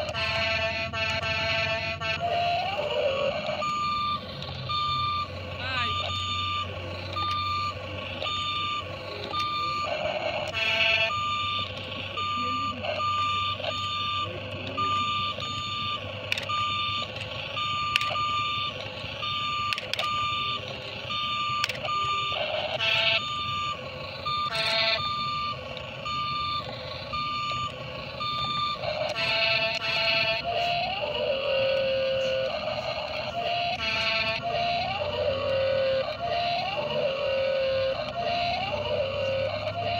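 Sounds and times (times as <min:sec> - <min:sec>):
reversing-style electronic beeps: 0:00.0 - 0:39.9.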